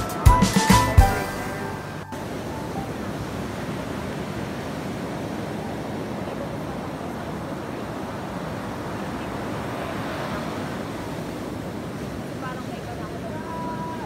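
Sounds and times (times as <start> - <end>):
surf washing on beach: 0.0 - 14.0.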